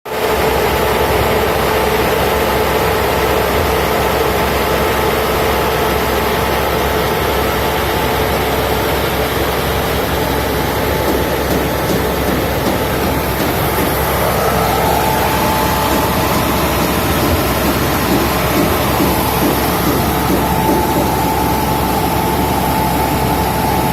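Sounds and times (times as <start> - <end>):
machinery drone: 0.2 - 23.9
machinery whine: 0.2 - 23.9.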